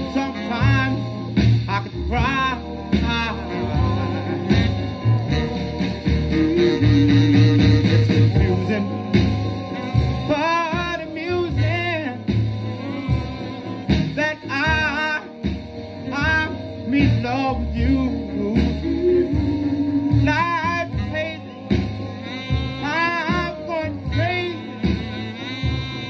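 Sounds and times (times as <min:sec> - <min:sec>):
band accompaniment with bass line: 0:00.0 - 0:26.0
vocal group singing: 0:00.0 - 0:26.0.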